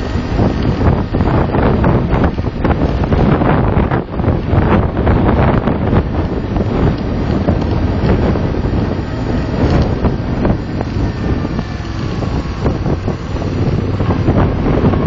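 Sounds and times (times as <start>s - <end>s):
car engine and road rumble: 0.0s - 15.0s
wind buffeting microphone: 0.0s - 15.0s.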